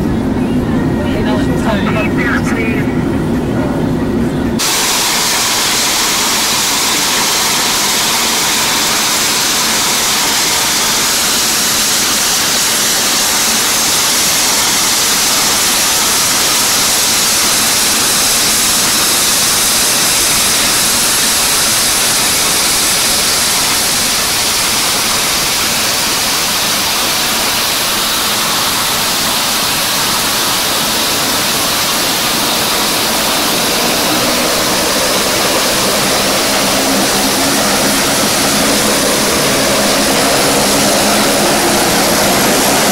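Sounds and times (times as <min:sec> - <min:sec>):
low propeller hum: 0:00.0 - 0:42.9
turboprop turbine hiss and whine: 0:00.0 - 0:42.9.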